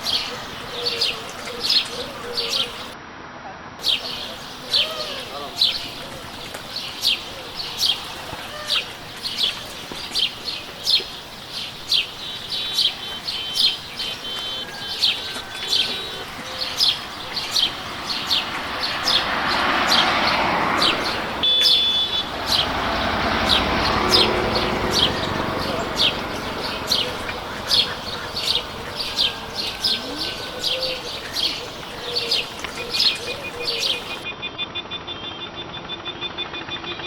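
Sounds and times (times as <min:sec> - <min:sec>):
broad rush of noise: 0:00.0 - 0:34.3
small bird chirping: 0:03.8 - 0:34.3.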